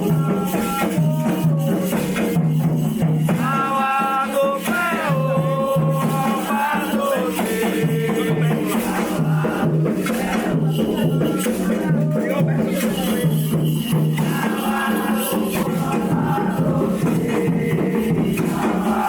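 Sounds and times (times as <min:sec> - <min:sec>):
repeating drumbeat: 0:00.0 - 0:19.0
voices singing: 0:00.0 - 0:19.0.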